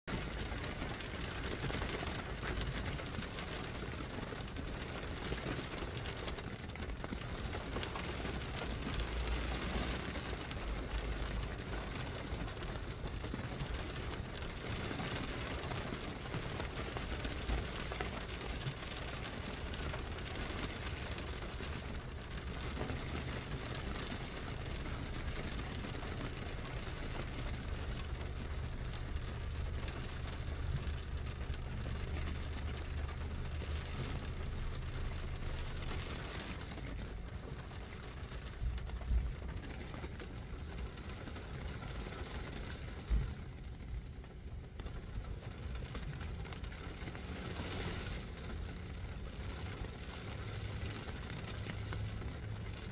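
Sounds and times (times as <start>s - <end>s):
steady rain: 0.0s - 52.9s
low steady rumble: 0.1s - 52.9s.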